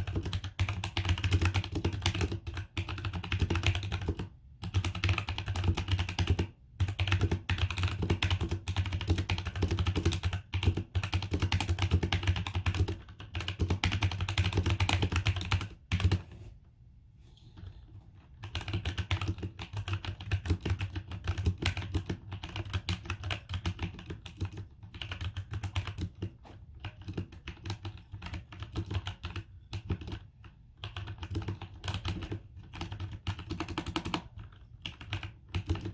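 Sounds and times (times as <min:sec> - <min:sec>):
typing on mechanical keyboard: 0:00.0 - 0:16.3, 0:17.6 - 0:35.9.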